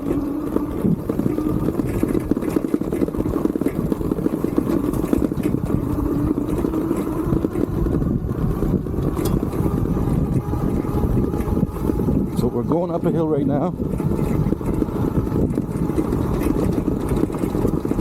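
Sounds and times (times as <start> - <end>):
electric hub motor whining: 0.0 - 18.0
tyres rumbling on rough ground: 0.0 - 18.0.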